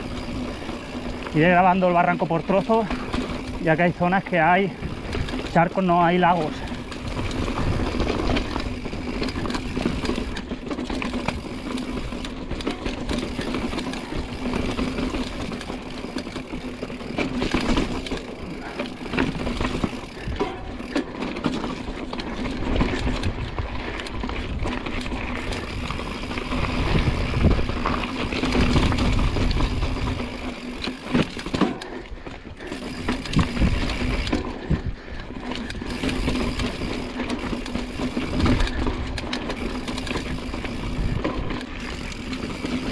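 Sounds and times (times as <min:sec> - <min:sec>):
bike knocking and rattling: 0:00.0 - 0:42.9
bike tyre and ground noise: 0:00.0 - 0:42.9.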